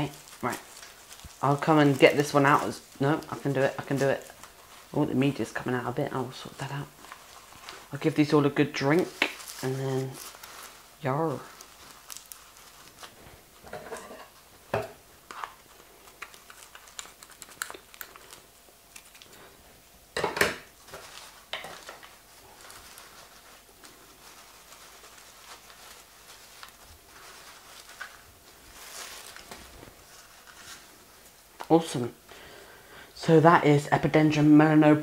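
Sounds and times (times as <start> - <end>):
loud paper crackle: 0.0 - 13.6, 15.3 - 19.4, 20.7 - 31.4
paper rustling and crinkling: 0.0 - 14.6, 15.2 - 19.5, 20.6 - 32.0.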